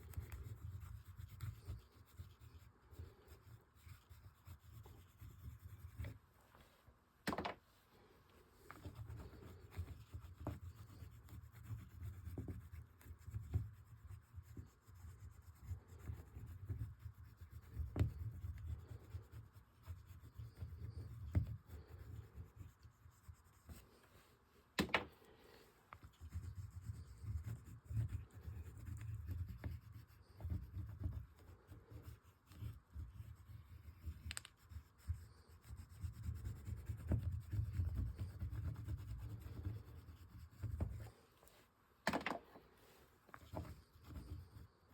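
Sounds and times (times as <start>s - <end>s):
oil pastels scratching on paper: 0.0s - 6.3s, 8.6s - 24.3s, 25.5s - 41.6s, 42.9s - 44.9s.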